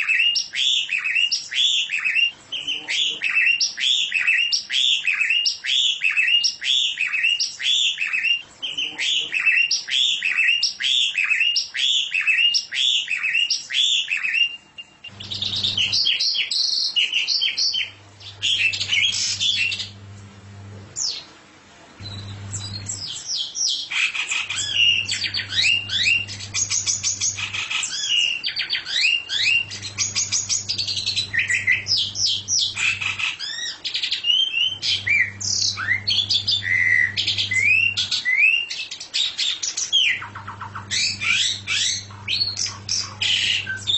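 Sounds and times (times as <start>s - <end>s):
songbird singing: 0.0s - 21.3s, 22.0s - 43.9s.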